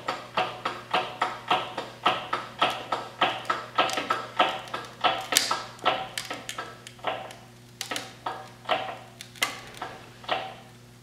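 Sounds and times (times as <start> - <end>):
hydraulic press pumping: 0.0 - 10.7.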